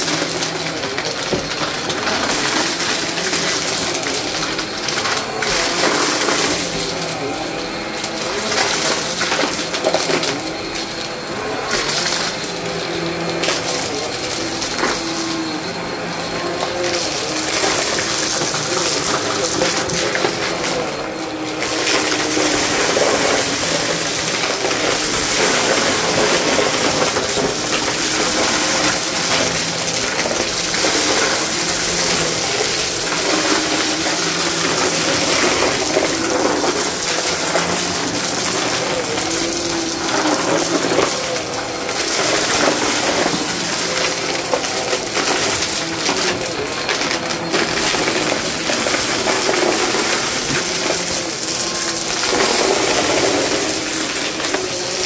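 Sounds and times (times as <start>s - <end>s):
vacuum cleaner motor droning: 0.0s - 55.0s.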